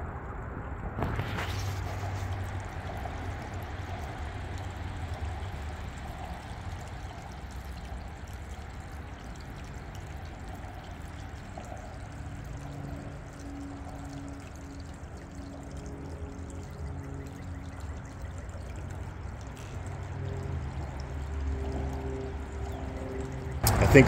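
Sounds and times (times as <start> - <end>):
water trickling and pouring: 0.0 - 24.0.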